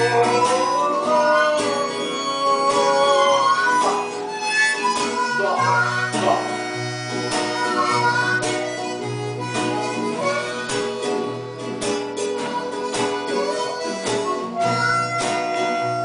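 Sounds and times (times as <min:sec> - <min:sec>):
harmonica bending notes: 0:00.0 - 0:16.0
strummed acoustic guitar: 0:00.0 - 0:16.0.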